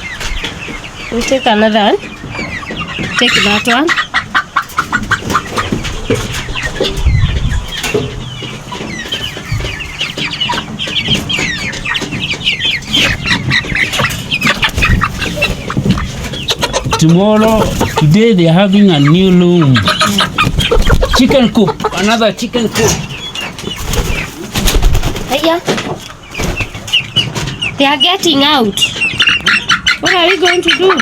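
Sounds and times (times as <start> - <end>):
chicks clucking and peeping: 0.0 - 31.0.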